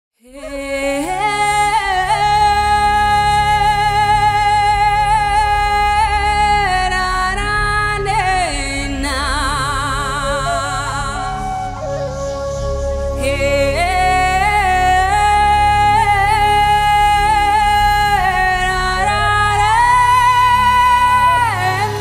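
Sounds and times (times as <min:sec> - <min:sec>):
woman singing long notes: 0:00.3 - 0:11.9, 0:13.2 - 0:22.0
low sustained accompaniment: 0:00.4 - 0:22.0.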